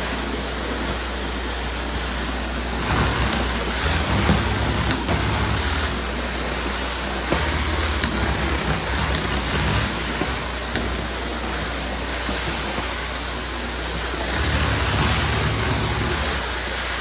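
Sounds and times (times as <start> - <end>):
cleaning vacuum machine running: 0.0 - 17.0.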